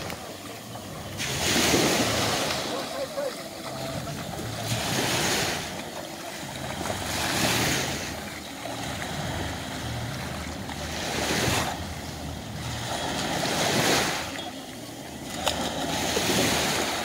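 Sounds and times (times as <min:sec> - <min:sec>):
small waves breaking on sand: 0:00.0 - 0:17.0.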